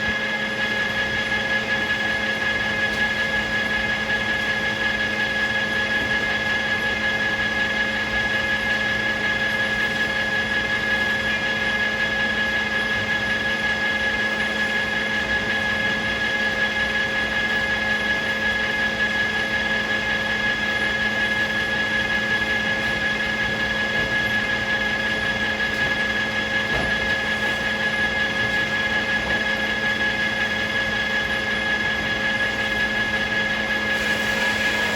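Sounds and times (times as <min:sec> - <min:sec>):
sawmill machine hum: 0:00.0 - 0:34.9.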